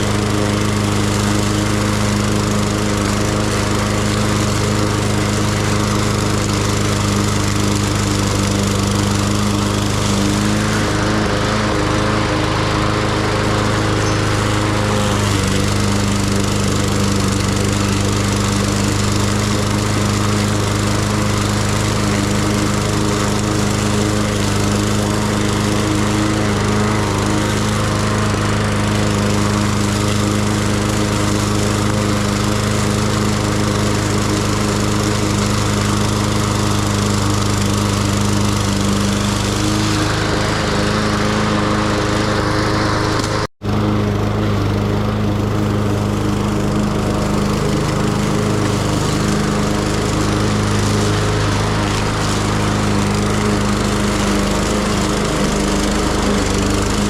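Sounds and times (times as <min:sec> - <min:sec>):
lawn mower engine cutting grass: 0:00.0 - 0:57.0.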